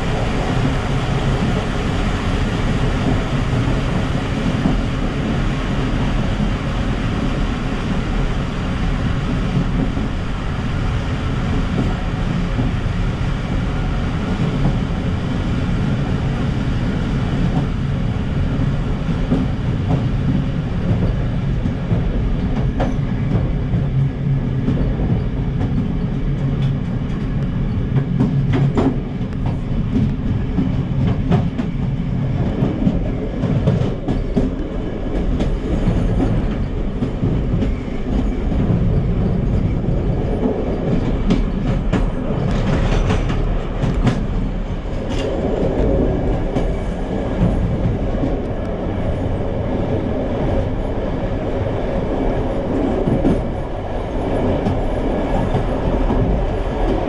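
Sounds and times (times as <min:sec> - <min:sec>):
wheels rumbling on rails: 0:00.0 - 0:57.0.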